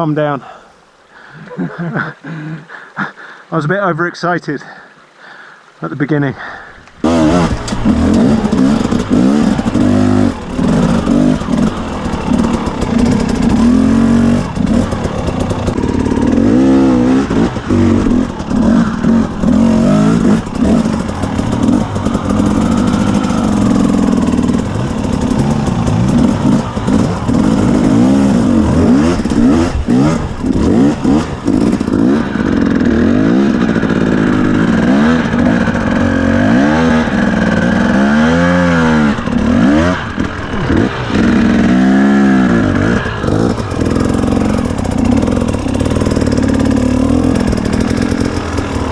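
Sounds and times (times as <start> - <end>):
dirt bike engine revving: 7.0 - 48.9.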